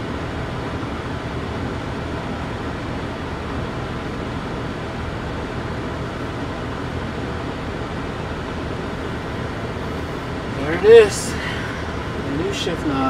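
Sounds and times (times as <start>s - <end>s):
air conditioning blower hiss: 0.0s - 13.0s
car engine idling: 0.0s - 13.0s.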